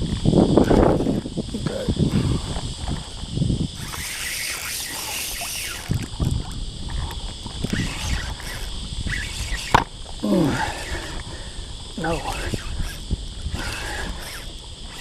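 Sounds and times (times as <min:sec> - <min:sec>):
water lapping against kayak hull: 0:00.0 - 0:15.0
wind buffeting microphone: 0:00.0 - 0:15.0.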